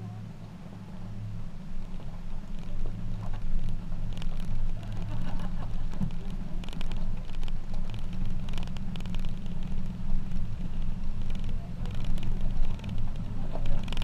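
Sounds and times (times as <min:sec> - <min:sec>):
truck engine and road rumble: 0:00.0 - 0:14.0
small clicks and rattles: 0:01.6 - 0:14.0.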